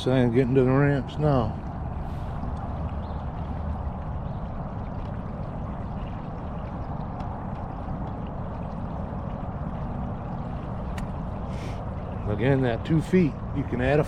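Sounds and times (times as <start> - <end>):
low rumble of water: 0.0 - 14.0
wind: 0.0 - 14.0.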